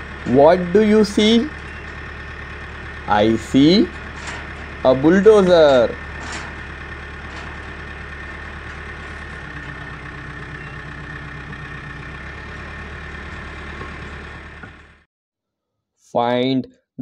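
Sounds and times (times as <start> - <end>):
diesel engine running: 0.0 - 15.1.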